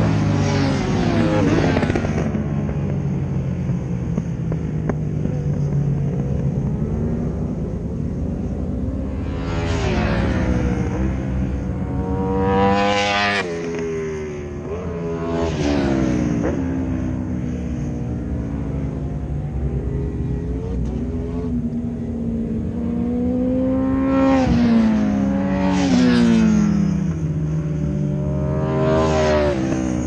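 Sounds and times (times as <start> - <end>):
racing motorcycles passing by: 0.0 - 30.0.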